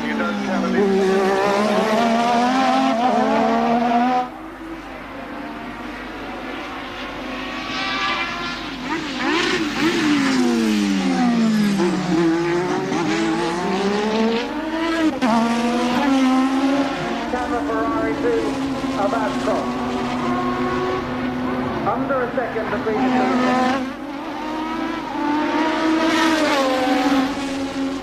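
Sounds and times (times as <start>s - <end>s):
race car engines at high revs: 0.0s - 28.0s
race car passing by: 0.0s - 28.0s.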